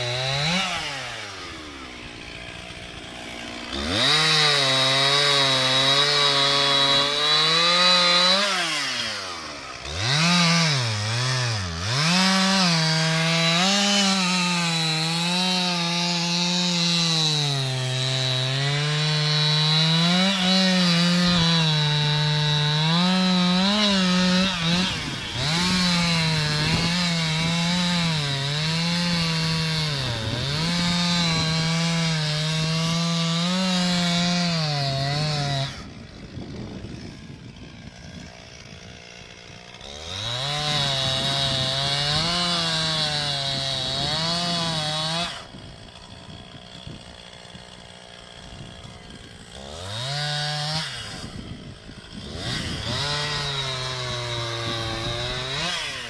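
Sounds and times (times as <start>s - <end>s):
chainsaw cutting tree trunk: 0.0s - 56.0s.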